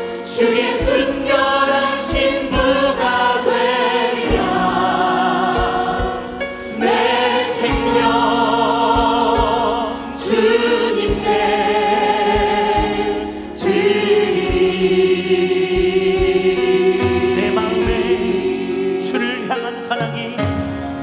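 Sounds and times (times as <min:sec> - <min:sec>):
congregation singing a hymn: 0:00.0 - 0:21.0
instrumental accompaniment: 0:00.0 - 0:21.0.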